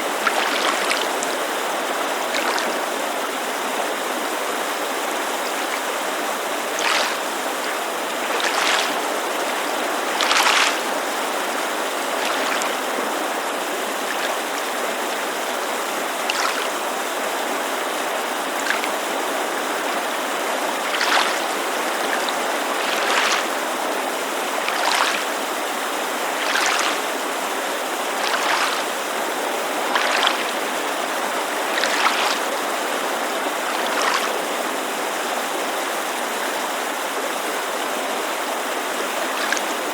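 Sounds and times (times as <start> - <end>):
creek rushing: 0.0 - 39.9
waves lapping against shore: 0.0 - 39.9.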